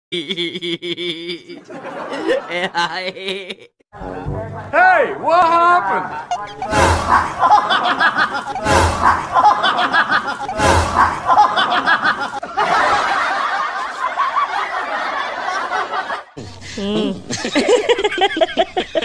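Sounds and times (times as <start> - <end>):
loud laughter: 0.1 - 3.8, 6.1 - 19.0.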